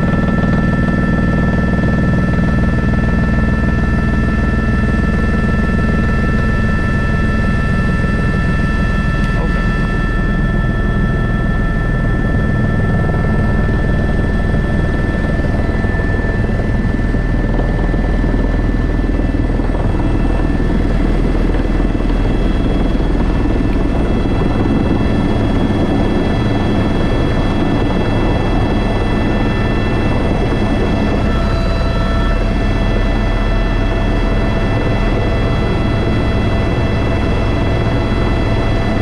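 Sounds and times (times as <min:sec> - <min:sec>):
helicopter rotor thrum: 0:00.0 - 0:39.0
turbine whine: 0:00.0 - 0:39.0.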